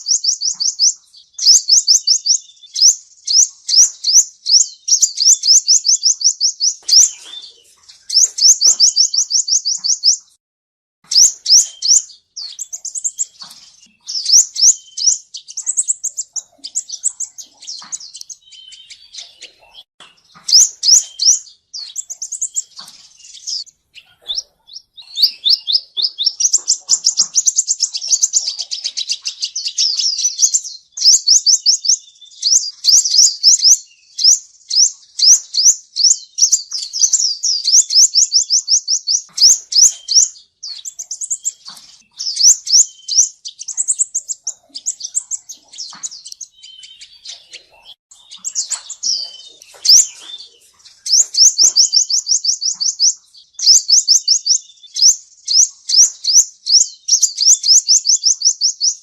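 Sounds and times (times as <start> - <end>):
bird trilling high chirps: 0.0 - 10.4, 11.0 - 59.0.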